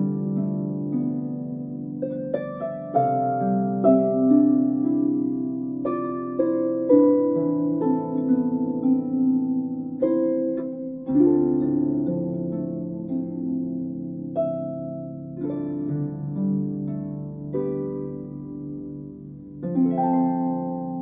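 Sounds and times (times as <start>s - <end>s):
harp playing: 0.0s - 21.0s.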